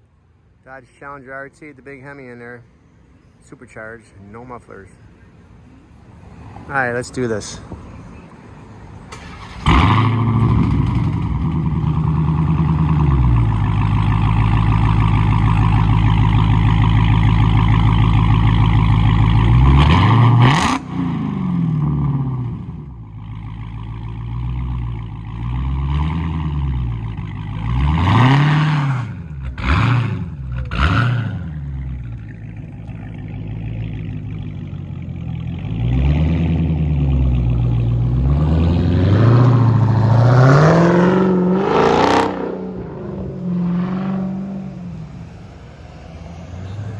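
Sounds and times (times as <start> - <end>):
car engine starting and revving: 9.0 - 46.9.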